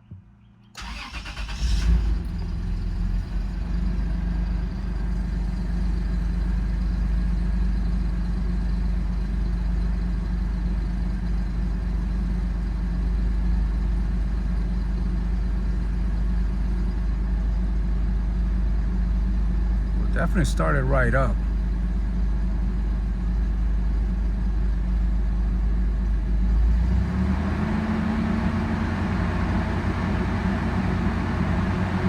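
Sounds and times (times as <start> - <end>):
car engine starting and idling: 0.1 - 32.0.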